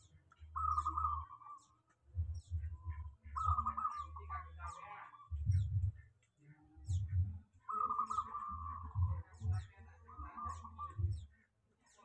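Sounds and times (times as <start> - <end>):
warbling bird calls: 0.0 - 6.2, 6.9 - 12.0
birds chirping: 0.0 - 12.0.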